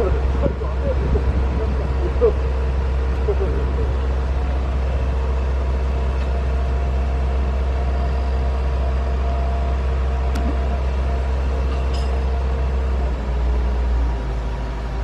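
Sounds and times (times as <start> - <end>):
crane diesel engine drone: 0.0 - 15.0.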